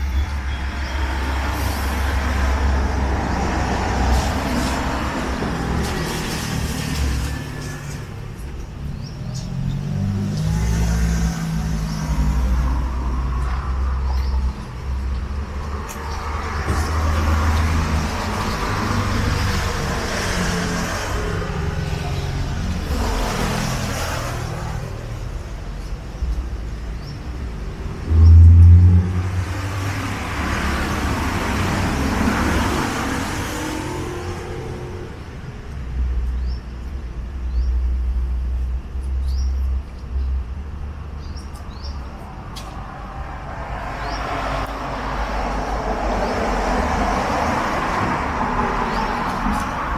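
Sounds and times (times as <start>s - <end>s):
low traffic rumble: 0.0s - 49.9s
vehicles passing: 0.0s - 49.9s.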